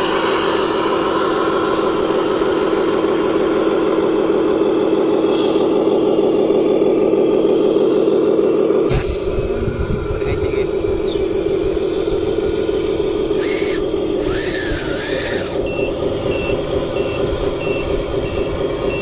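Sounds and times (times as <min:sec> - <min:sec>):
toy truck engine droning: 0:00.0 - 0:08.9, 0:10.9 - 0:19.0.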